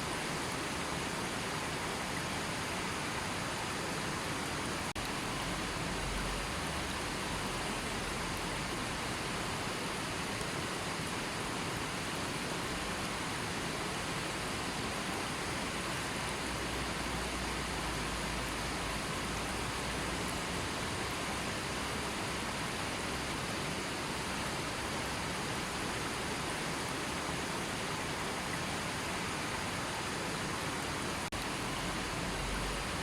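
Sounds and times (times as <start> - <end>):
river flowing: 0.0 - 33.0.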